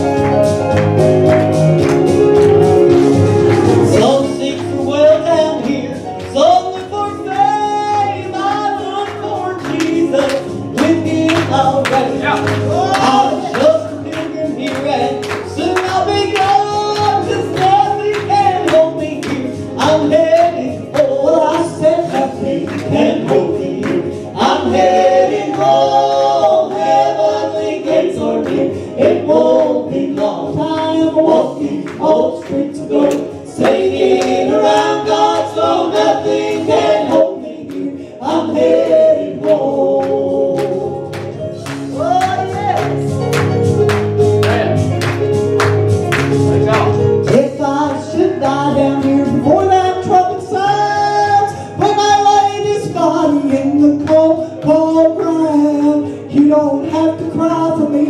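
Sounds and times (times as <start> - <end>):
choir singing gospel song: 0.0 - 58.0
instrumental accompaniment: 0.0 - 58.0.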